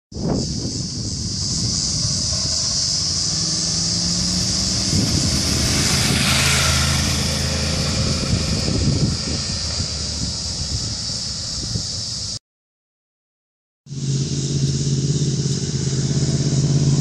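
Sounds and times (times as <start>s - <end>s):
motorcycle engine passing by: 0.7s - 11.7s, 13.9s - 17.0s.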